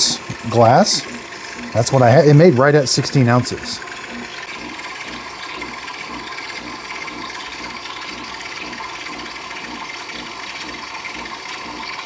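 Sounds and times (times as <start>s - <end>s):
espresso machine pump: 0.0s - 12.0s.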